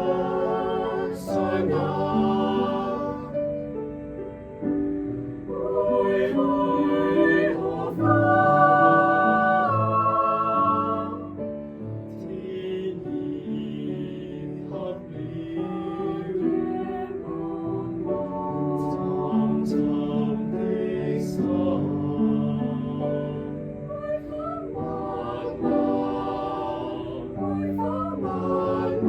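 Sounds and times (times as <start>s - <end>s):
mixed choir singing: 0.0s - 3.8s, 5.4s - 29.0s
piano accompaniment: 0.0s - 29.0s.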